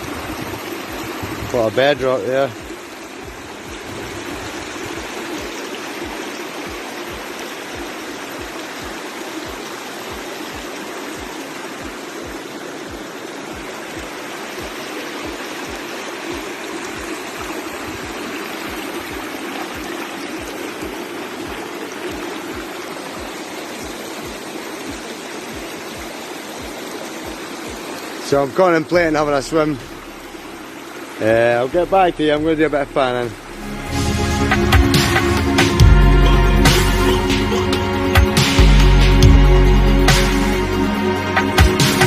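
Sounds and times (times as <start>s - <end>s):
waterfall rushing over rocks: 0.0s - 36.0s.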